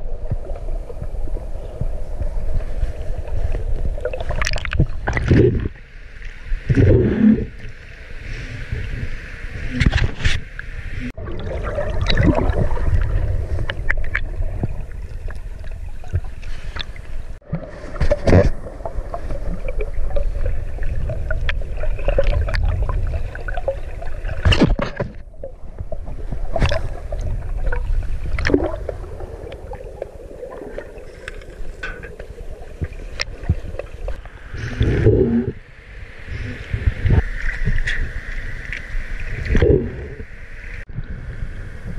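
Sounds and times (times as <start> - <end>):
muffled underwater river rumble: 0.0 - 41.9.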